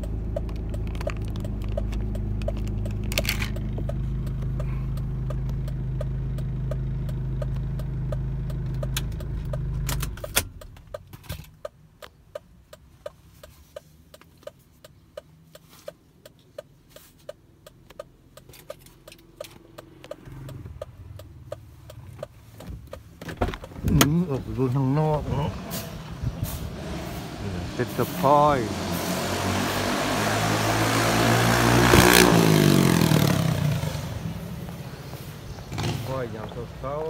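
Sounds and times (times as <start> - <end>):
turn signal ticking: 0.0 - 26.3, 29.9 - 35.8
faint traffic: 0.0 - 37.0
low car engine hum: 0.0 - 37.0.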